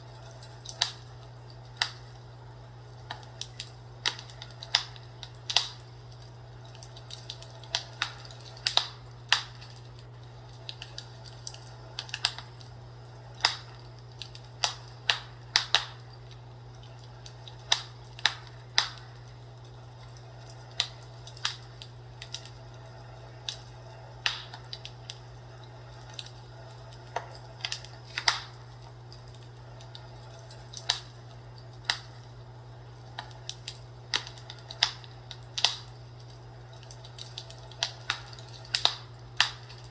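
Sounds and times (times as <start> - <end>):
fireplace wood fire crackling: 0.0 - 39.9
steady low hum: 0.0 - 39.9.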